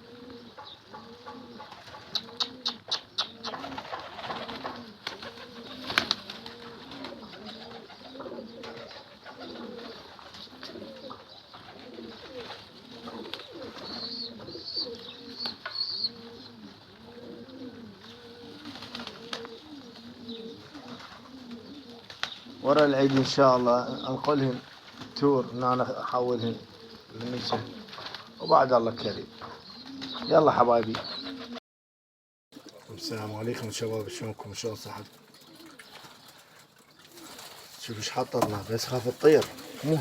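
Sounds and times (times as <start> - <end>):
pigeons cooing: 0.0 - 31.6, 32.6 - 40.0.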